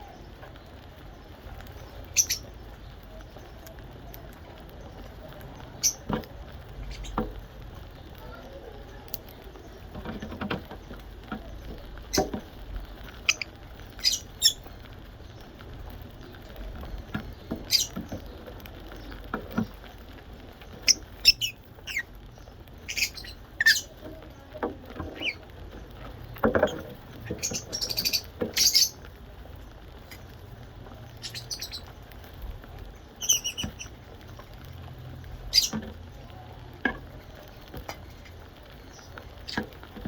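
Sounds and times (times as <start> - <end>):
parrots chirping: 0.0 - 36.2, 36.8 - 40.0.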